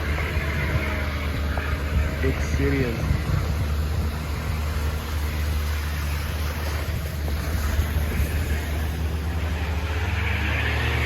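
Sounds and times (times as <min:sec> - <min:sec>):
car engine running: 0:00.0 - 0:11.0
wind on microphone: 0:00.0 - 0:11.0.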